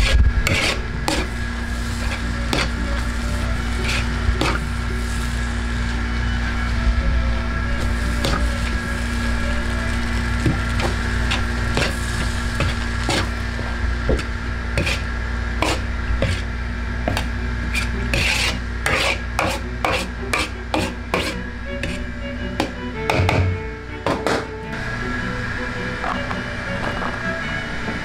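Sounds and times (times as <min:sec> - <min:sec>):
kitchen equipment humming: 0:00.0 - 0:28.0.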